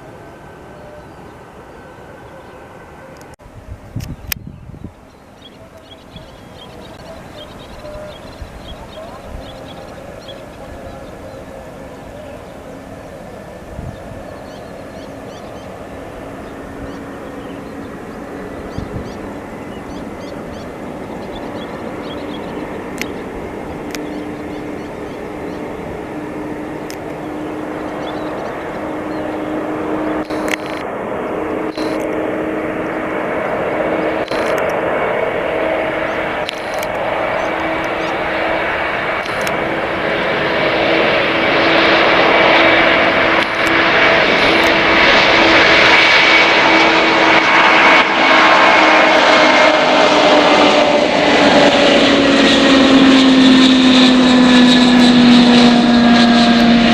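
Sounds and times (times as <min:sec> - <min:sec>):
jet engines humming and whining: 0:00.0 - 0:56.9.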